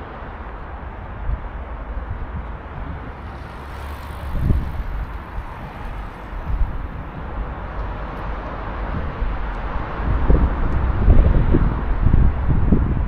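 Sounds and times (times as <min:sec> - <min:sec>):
continuous city rush: 0:00.0 - 0:13.0.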